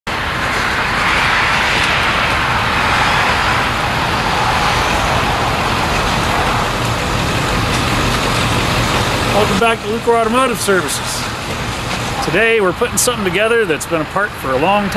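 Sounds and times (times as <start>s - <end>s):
steel garage door rolling up: 0.3s - 12.6s.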